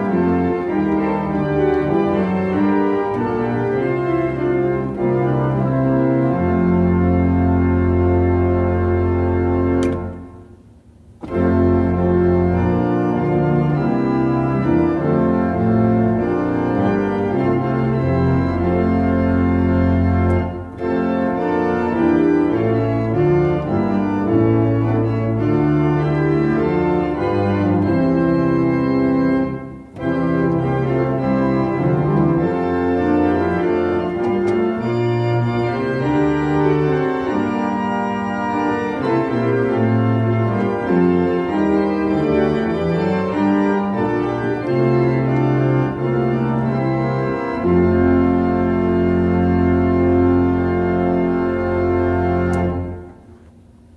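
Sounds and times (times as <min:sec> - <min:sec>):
church organ playing a hymn: 0:00.0 - 0:53.9.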